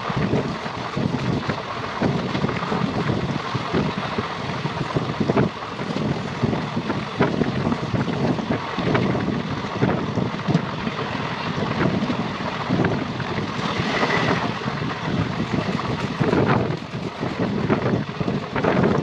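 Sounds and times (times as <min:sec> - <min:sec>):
moving train running noise: 0:00.0 - 0:19.0
wind rushing over microphone: 0:00.0 - 0:19.0.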